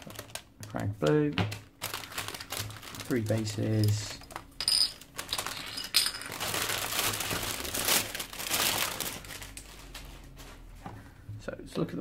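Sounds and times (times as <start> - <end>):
plastic wrapping crinkling: 0.0 - 10.8.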